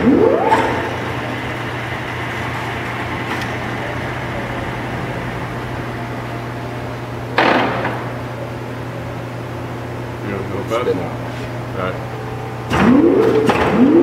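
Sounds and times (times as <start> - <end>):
lathe running with mechanical hum: 0.0 - 14.0.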